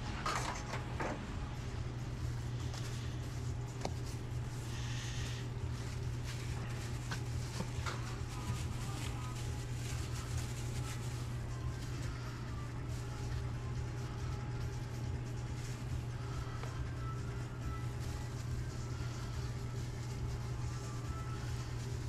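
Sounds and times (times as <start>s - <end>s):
kitchen equipment hum: 0.0s - 22.0s
plastic gloves rustling: 1.4s - 22.0s.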